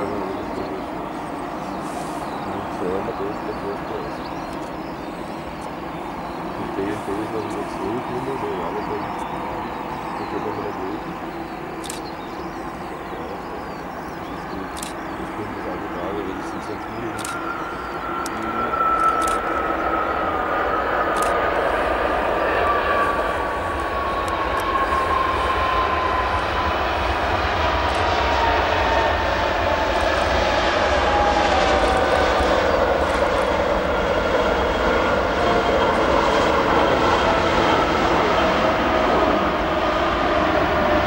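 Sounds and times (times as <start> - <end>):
jet engine roar: 0.0 - 41.0.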